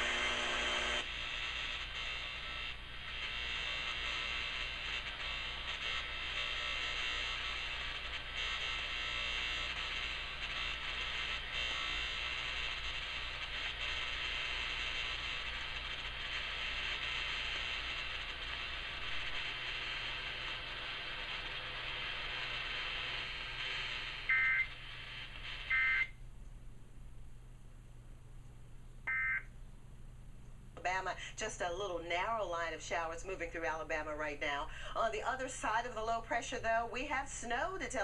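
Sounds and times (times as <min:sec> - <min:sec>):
steady static: 0:00.0 - 0:38.0.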